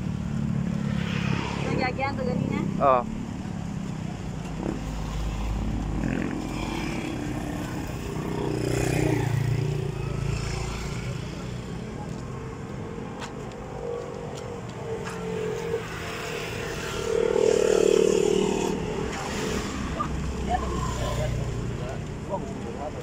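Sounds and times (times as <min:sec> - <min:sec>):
cars passing: 0:00.0 - 0:23.0
motorcycles passing: 0:00.0 - 0:23.0.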